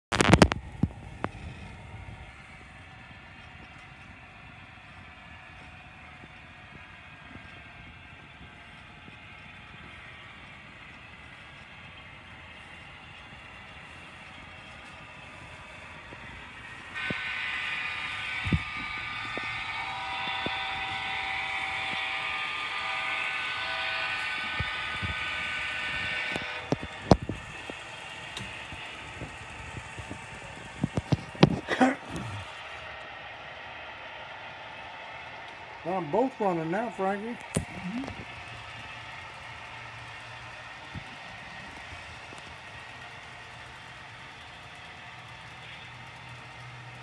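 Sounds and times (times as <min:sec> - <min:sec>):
model locomotive rumbling: 0:00.1 - 0:47.0.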